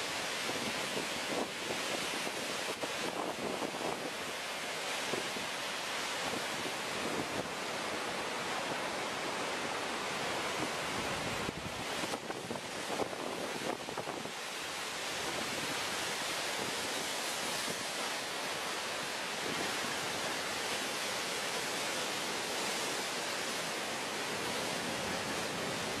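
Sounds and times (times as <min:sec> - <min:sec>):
storm waves surging against seawall: 0:00.0 - 0:26.0.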